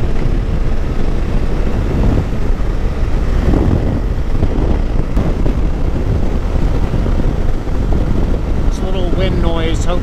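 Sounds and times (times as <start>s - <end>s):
motorcycle engine running: 0.0s - 10.0s
wind rush on microphone: 0.0s - 10.0s.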